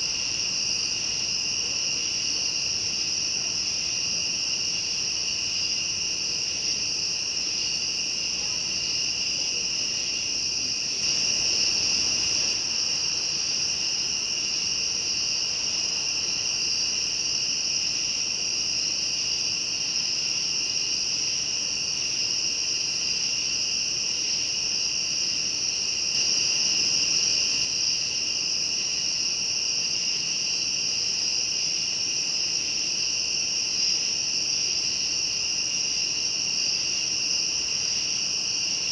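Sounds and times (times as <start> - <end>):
night insects trilling: 0.0 - 38.9.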